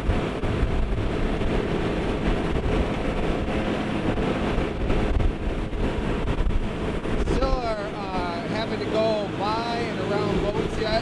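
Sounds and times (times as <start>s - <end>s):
boat engine running: 0.0s - 11.0s
water rushing: 0.0s - 11.0s
wind: 0.0s - 11.0s.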